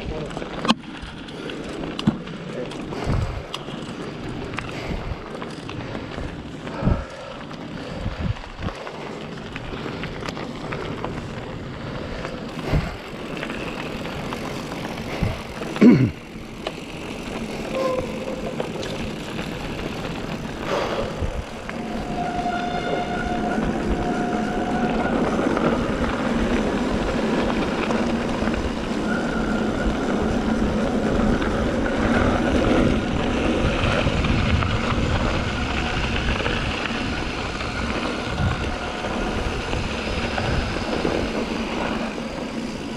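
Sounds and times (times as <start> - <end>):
bike rattling: 0.0 - 42.9
bike tyres rolling over dirt: 0.0 - 42.9
wind: 0.0 - 42.9.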